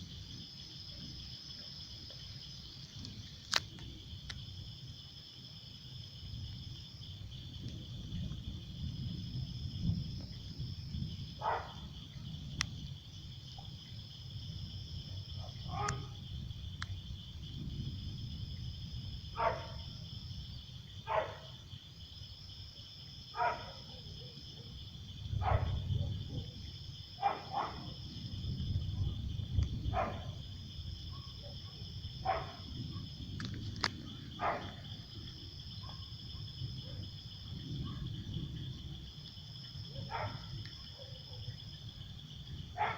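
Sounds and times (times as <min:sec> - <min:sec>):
cricket trill: 0:00.0 - 0:42.9
higher pulsing insect trill: 0:00.0 - 0:42.9.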